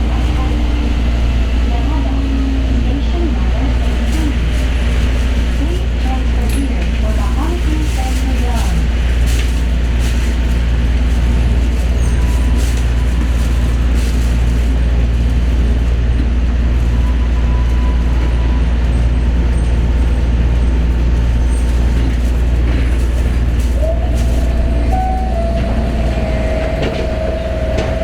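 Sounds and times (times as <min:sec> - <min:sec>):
train cabin rumble and hum: 0:00.0 - 0:28.0.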